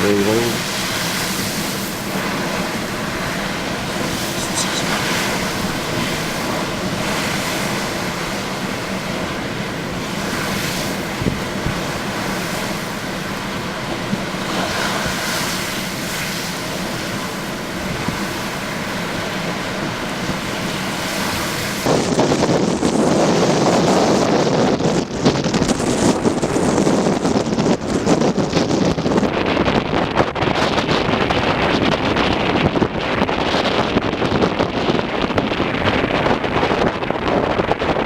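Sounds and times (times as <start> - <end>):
waves breaking: 0.0 - 38.0
wind buffeting microphone: 0.0 - 38.0.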